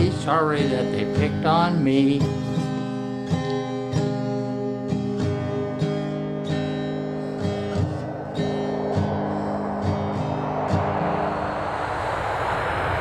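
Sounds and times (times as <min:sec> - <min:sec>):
acoustic guitar strumming: 0:00.0 - 0:11.5.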